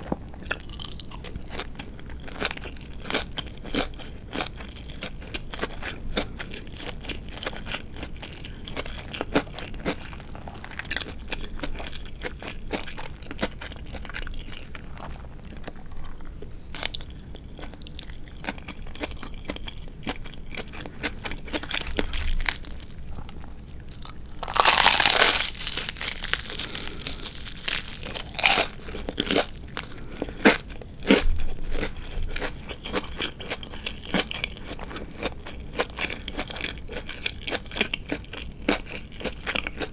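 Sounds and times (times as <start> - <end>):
chewing crispy fried chicken: 0.0 - 39.9.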